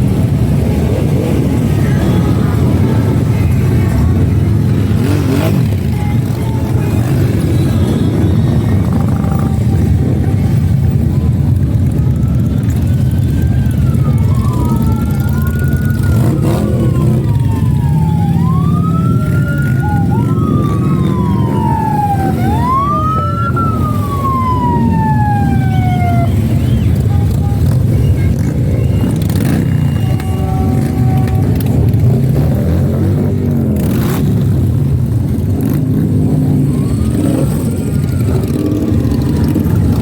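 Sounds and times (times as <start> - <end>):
emergency vehicle siren wailing: 0.0 - 40.0
motorcycle engines rumbling: 0.0 - 40.0.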